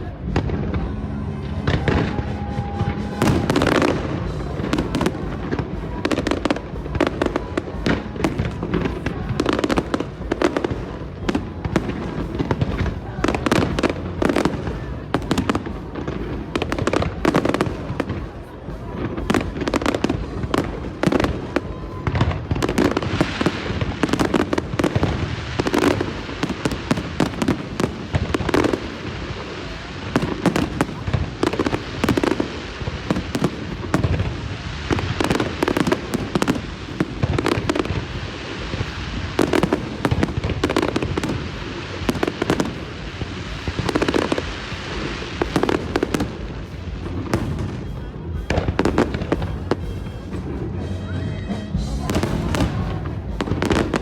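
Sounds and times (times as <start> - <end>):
fireworks banging: 0.0 - 54.0.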